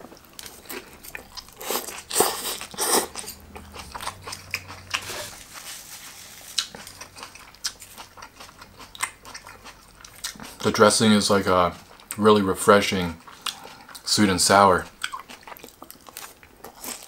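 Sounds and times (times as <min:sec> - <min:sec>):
chewing crisp cabbage: 0:00.0 - 0:17.0.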